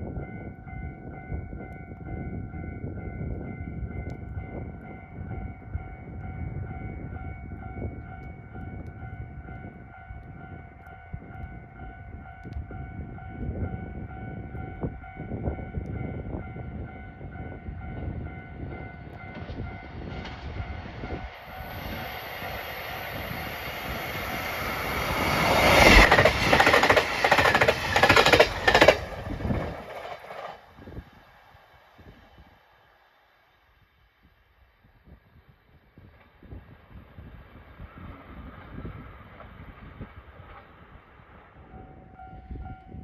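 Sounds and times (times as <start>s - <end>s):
train passing with clickety-clack: 0.0s - 32.4s, 36.0s - 43.0s.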